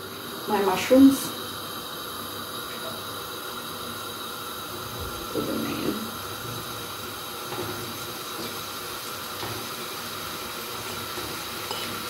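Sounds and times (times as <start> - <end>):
mushrooms sizzling in oil: 0.0 - 12.0.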